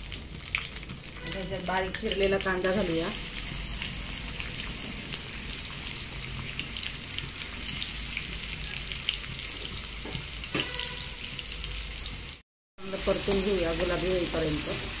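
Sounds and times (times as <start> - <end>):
onion sizzling in hot oil: 0.0 - 15.0.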